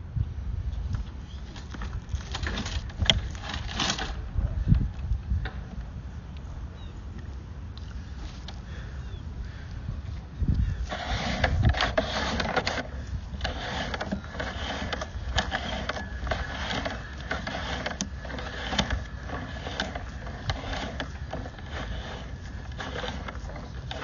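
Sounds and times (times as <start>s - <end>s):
cable clicking and scraping: 0.9s - 6.5s, 7.2s - 8.8s, 9.6s - 24.0s.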